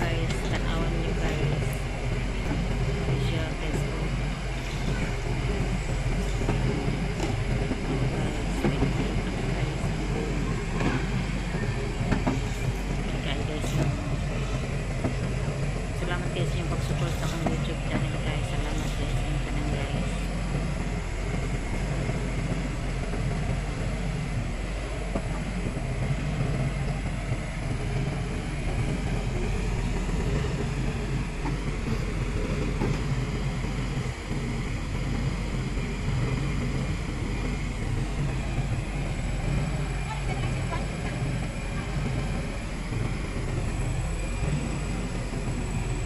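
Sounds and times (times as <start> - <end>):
excavator diesel engine droning: 0.0 - 46.0.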